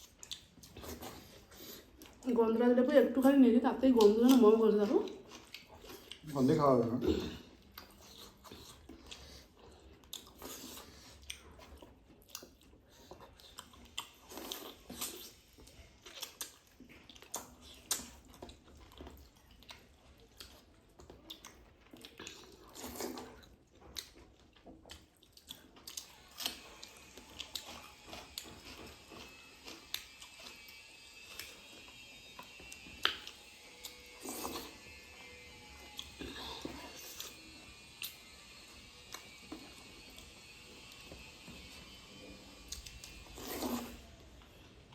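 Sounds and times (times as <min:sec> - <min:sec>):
person chewing food: 0:00.0 - 0:02.3, 0:03.9 - 0:44.9.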